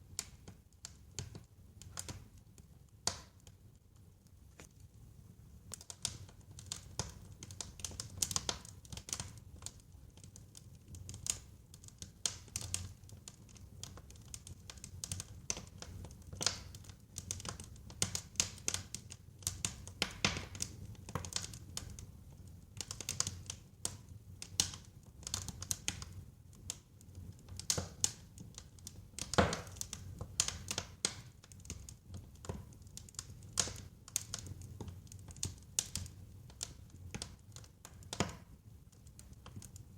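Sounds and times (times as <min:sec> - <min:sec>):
wood fire crackling and popping: 0:00.0 - 0:39.9
low rumble of burning: 0:00.1 - 0:39.9.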